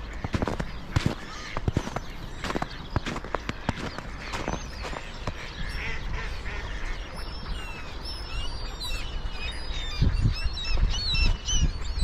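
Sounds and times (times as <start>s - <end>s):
ducks and gulls calling: 0.0s - 12.0s.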